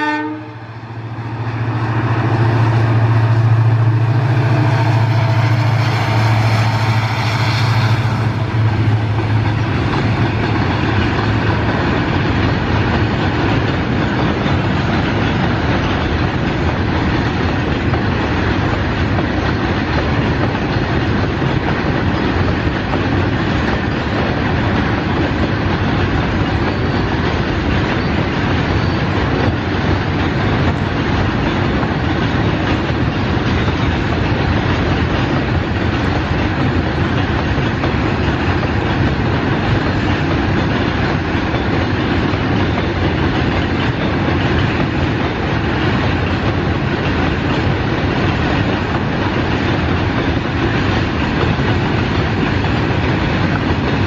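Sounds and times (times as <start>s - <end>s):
freight wagons rumbling on track: 0.0s - 54.0s
locomotive engine drone: 0.0s - 54.0s.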